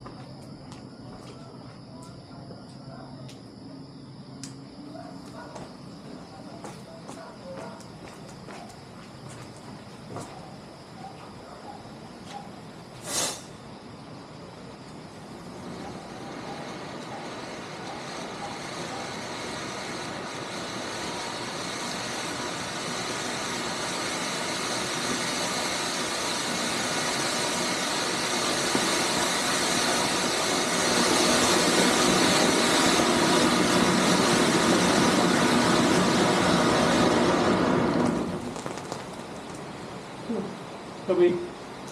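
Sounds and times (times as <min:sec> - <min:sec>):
firework fountain hissing: 0:03.3 - 0:41.9.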